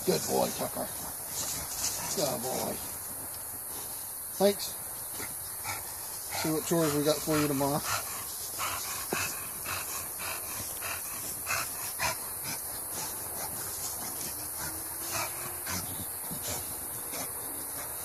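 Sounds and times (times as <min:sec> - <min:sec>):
dog breathing hard and sniffing: 0:00.0 - 0:18.0.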